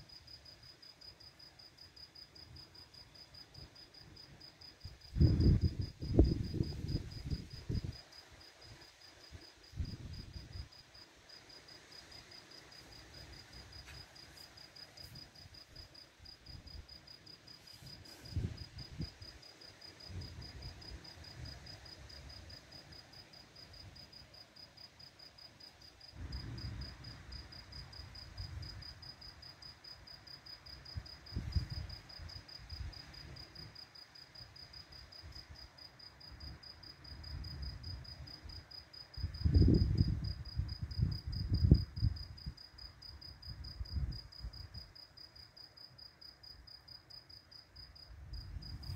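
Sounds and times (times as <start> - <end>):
cricket chirping: 0.0 - 48.9.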